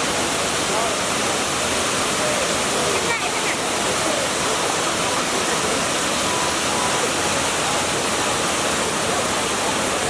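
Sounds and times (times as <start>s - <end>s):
waterfall pouring: 0.0s - 10.0s.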